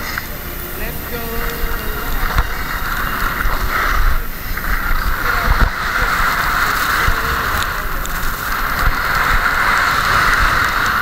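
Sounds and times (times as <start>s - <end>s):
skis thumping over snow: 0.0s - 11.0s
wind rushing over microphone: 0.0s - 11.0s.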